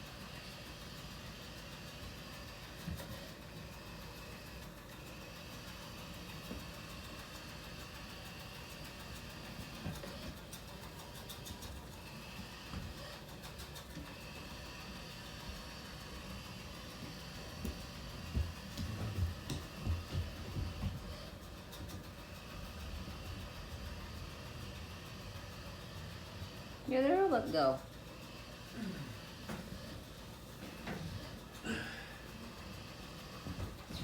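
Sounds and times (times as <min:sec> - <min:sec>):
robot vacuum running: 0:00.0 - 0:34.0.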